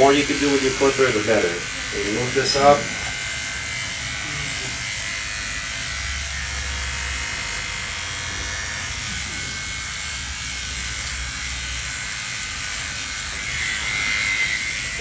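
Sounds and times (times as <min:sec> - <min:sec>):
electric dog clipper humming: 0:00.0 - 0:15.0.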